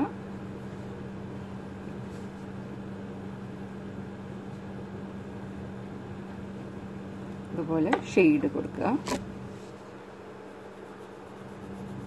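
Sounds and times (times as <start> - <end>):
low electric hum: 0.0 - 12.0.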